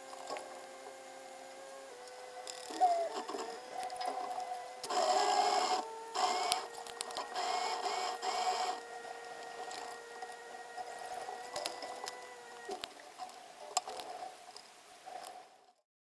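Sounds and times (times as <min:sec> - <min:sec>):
anchor windlass motor whine: 0:00.0 - 0:15.8
steady mechanical hum: 0:00.0 - 0:15.8.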